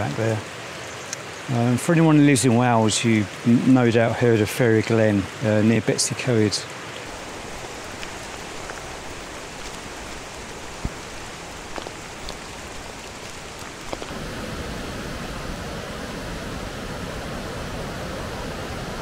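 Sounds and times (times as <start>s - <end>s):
river gushing through gorge: 0.0s - 19.0s
steady watery hiss: 0.0s - 19.0s.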